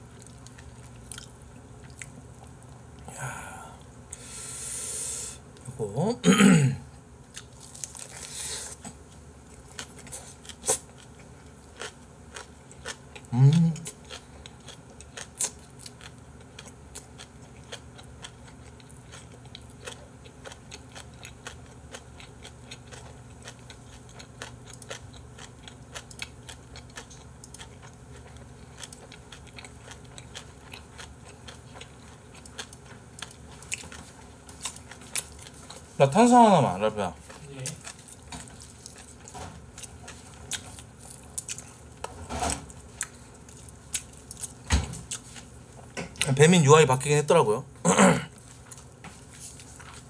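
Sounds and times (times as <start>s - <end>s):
person chewing crunchy food: 0.0s - 5.7s, 7.3s - 46.4s, 48.3s - 50.0s.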